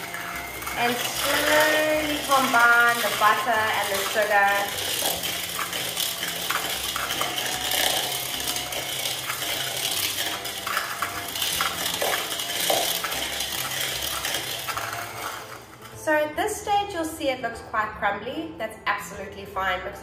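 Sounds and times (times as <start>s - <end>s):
beaters clattering in bowl: 0.0s - 16.1s
electric hand mixer running: 0.0s - 16.3s.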